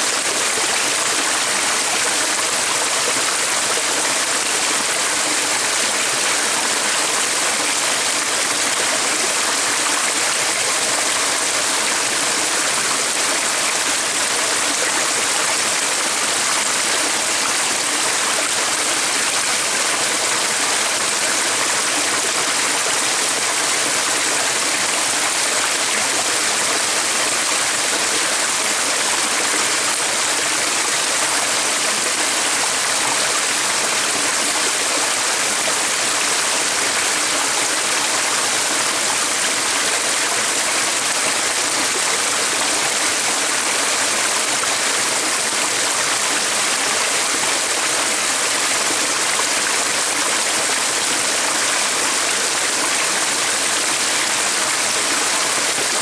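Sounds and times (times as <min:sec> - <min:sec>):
stream of running water: 0:00.0 - 0:56.0.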